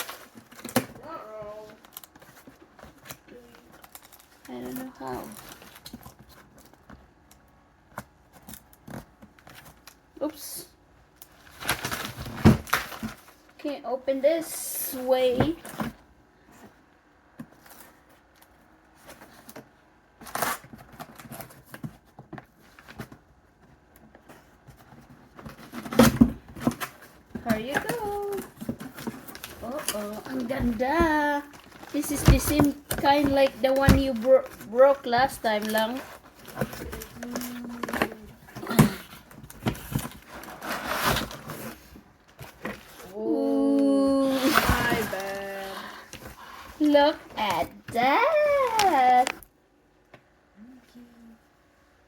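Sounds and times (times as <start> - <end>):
packaging rustling and scraping: 0.0 - 10.0, 11.2 - 13.6, 14.2 - 49.4.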